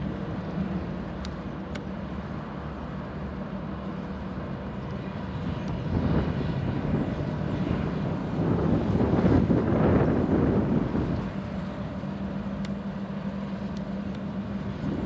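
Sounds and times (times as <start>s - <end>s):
low engine hum: 0.0s - 15.0s
rough engine noise: 0.0s - 15.0s.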